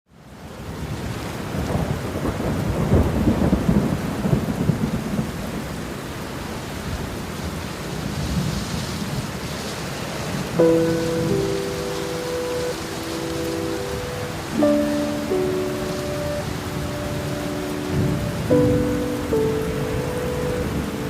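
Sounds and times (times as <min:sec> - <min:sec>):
heavy rain falling: 0:00.1 - 0:21.0
crackling rumble of thunder: 0:00.8 - 0:05.9, 0:07.9 - 0:21.0.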